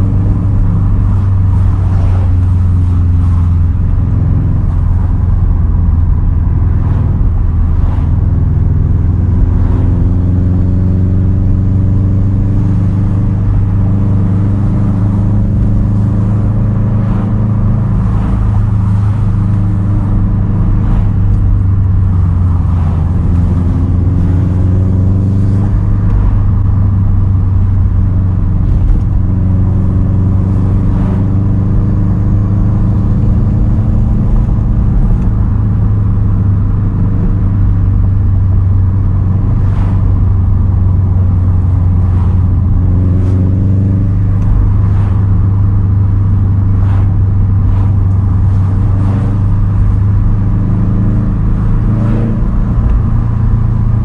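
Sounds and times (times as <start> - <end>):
car engine deep drone: 0.0 - 54.0.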